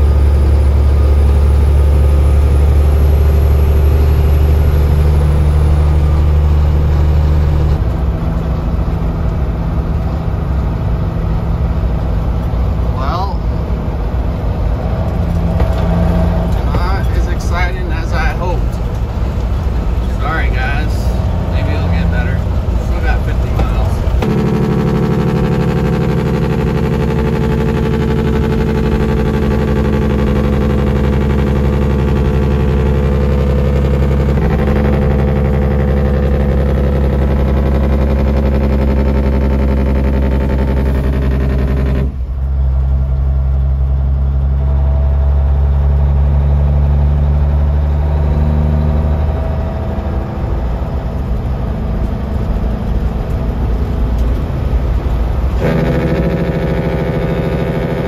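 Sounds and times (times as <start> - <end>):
diesel engine with engine brake: 0.0 - 58.0.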